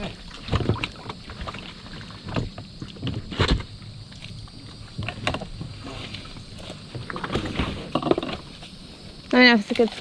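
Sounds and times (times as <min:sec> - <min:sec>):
paddle strokes splashing: 0:00.0 - 0:08.7.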